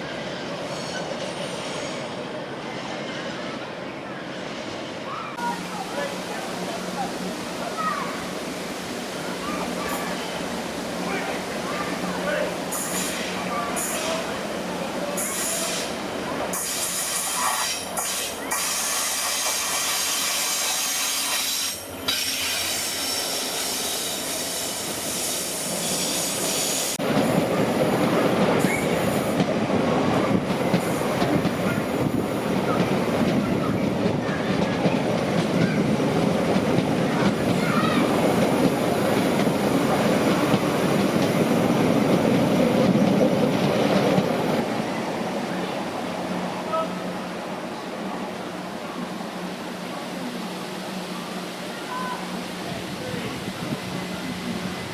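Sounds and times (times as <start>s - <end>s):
train wheels running on rail: 0.0s - 54.9s.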